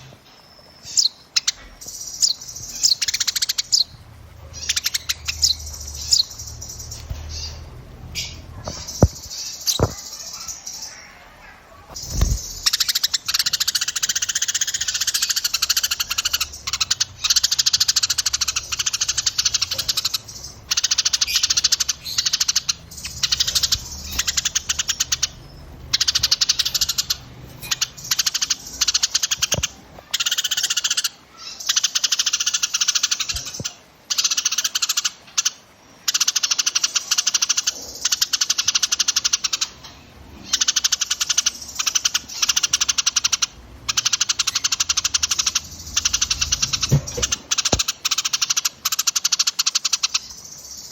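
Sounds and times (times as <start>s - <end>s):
songbirds trilling: 0.0s - 50.9s.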